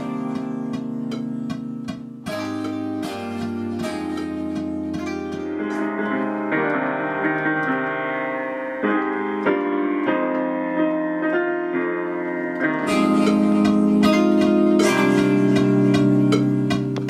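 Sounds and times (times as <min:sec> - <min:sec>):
keyboard playing piano chords: 0:00.0 - 0:17.0.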